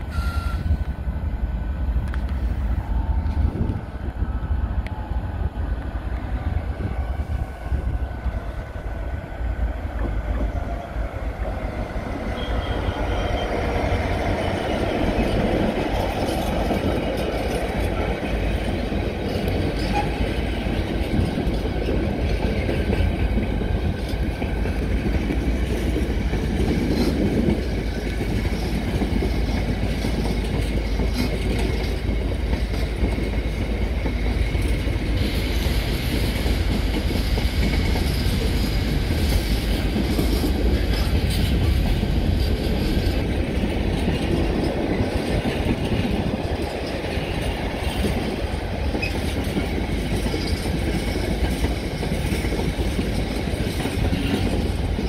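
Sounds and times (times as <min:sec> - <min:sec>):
diesel locomotive engine passing: 0:00.0 - 0:55.0
train wheels rumbling and clattering: 0:00.0 - 0:55.0.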